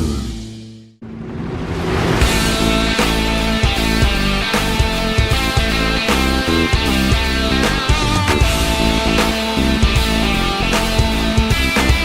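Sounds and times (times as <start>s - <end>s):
rock music with electric guitar: 2.2s - 12.0s.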